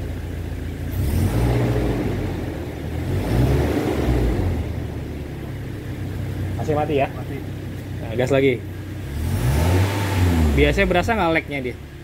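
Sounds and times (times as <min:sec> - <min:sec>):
car engine throttle blips: 0:00.0 - 0:12.0.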